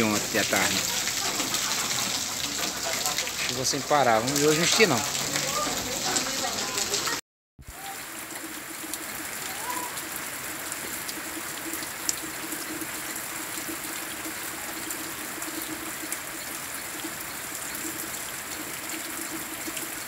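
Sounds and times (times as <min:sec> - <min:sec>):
steady rain falling: 0:00.0 - 0:20.0
water dripping off roof edge: 0:00.0 - 0:20.0.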